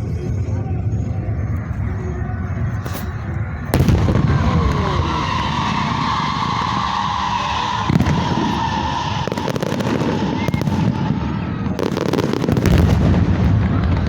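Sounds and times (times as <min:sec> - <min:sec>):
fireworks banging and crackling: 0:00.0 - 0:14.0.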